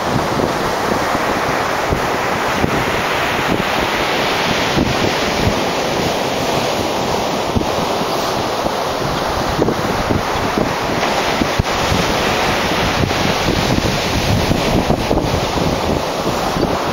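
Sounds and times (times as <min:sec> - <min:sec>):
waves breaking on a beach: 0:00.0 - 0:16.9
wind buffeting the microphone: 0:00.0 - 0:16.9.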